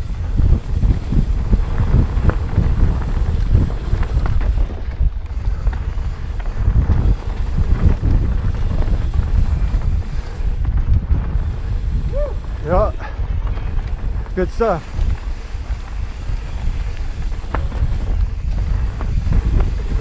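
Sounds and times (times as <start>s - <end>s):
bike jolts: 0.0s - 20.0s
bike rumbling on dirt trail: 0.0s - 20.0s
wind buffeting microphone: 0.0s - 20.0s.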